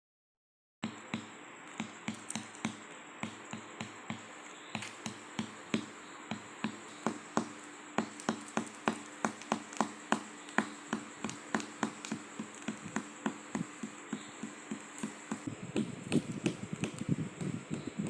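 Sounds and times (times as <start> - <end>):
faint steady hum: 0.8 - 18.0.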